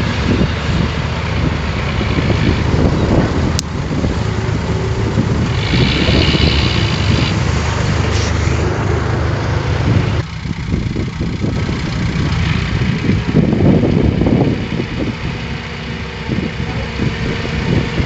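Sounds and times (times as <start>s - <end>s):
heavy diesel machinery rumbling: 0.0s - 18.0s.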